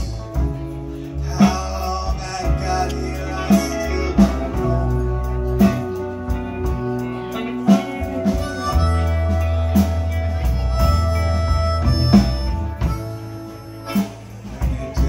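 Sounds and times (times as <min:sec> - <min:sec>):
blues band playing: 0:00.0 - 0:15.0
harmonica: 0:00.0 - 0:15.0.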